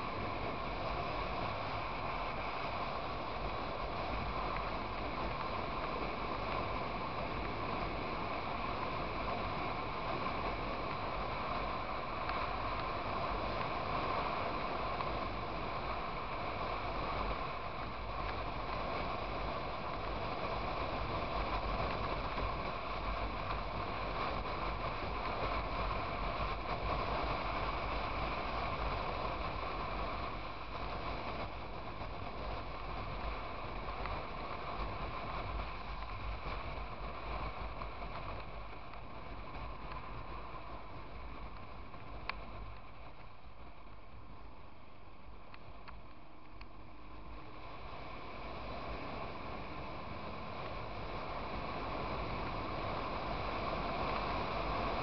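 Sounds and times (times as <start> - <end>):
motorcycle road noise: 0.0 - 55.0.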